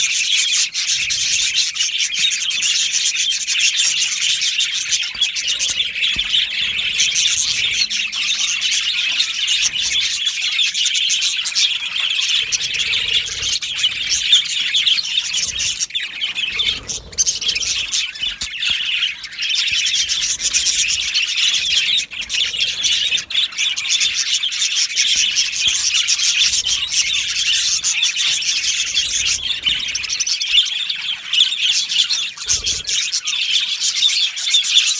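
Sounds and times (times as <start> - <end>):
bird squawks: 0.0 - 34.9
budgerigars chirping and chattering: 0.0 - 34.9.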